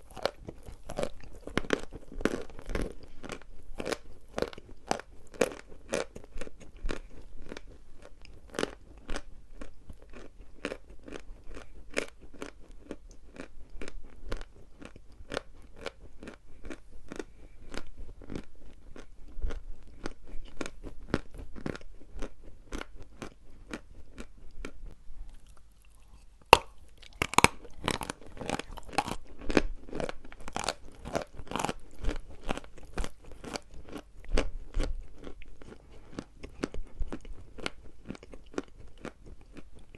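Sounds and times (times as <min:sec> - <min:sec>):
chalk crunching while chewed: 0:00.0 - 0:39.9.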